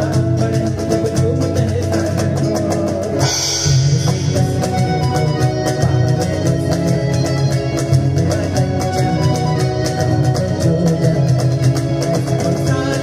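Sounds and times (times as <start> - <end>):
acoustic guitar: 0.0 - 13.0
cajon strokes: 0.0 - 13.0
keyboard: 0.0 - 13.0.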